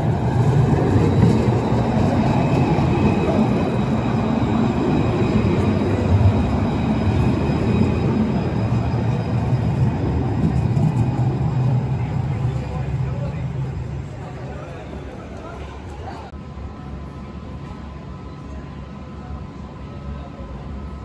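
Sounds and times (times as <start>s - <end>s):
tram wheels rumbling on rail: 0.0s - 21.0s.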